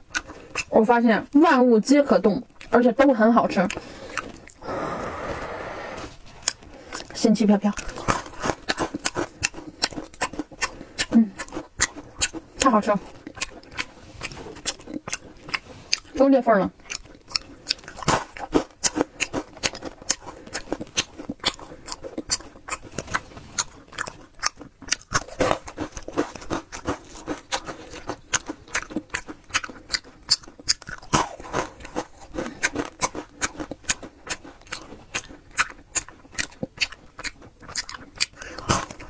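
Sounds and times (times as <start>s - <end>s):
frozen chocolate balls crunching: 0.0s - 39.0s.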